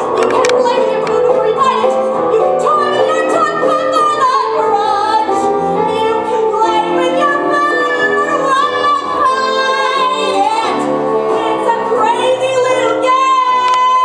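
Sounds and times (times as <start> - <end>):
instrumental accompaniment: 0.0 - 14.0
woman singing show tune: 0.1 - 14.0.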